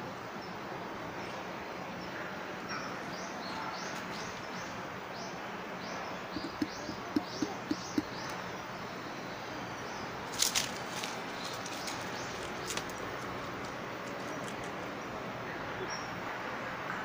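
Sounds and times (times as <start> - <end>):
sparrows chirping: 2.0 - 16.2.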